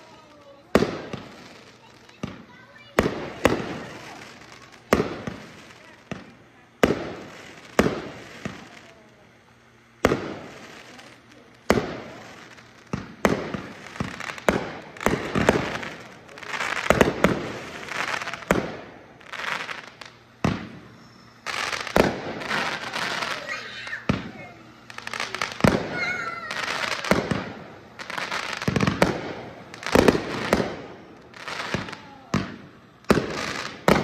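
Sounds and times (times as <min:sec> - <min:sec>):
fireworks bangs: 0:00.0 - 0:34.0
fireworks crackling: 0:00.0 - 0:34.0.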